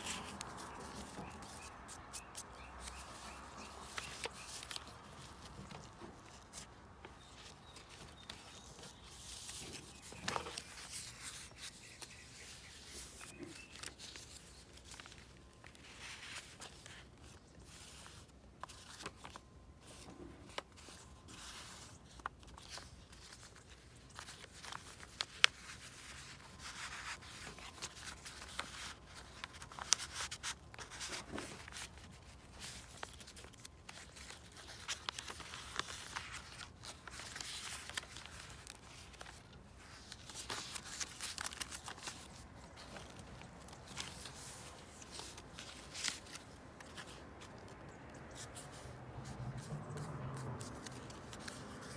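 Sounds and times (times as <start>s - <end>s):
paper rustling and sliding: 0.0s - 51.9s.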